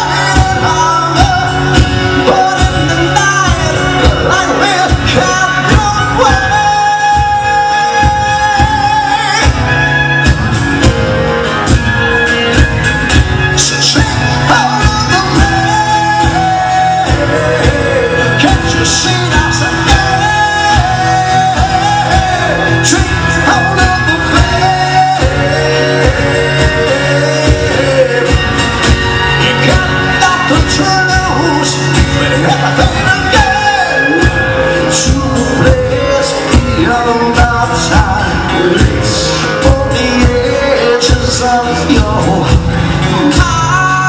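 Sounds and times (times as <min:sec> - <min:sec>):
acoustic guitars: 0:00.0 - 0:44.0
steady drum beat: 0:00.0 - 0:44.0.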